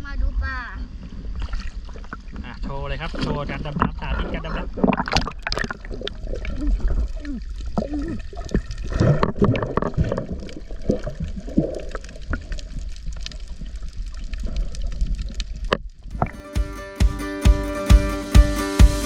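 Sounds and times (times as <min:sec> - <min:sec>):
water splashing and gurgling: 0:00.0 - 0:16.6.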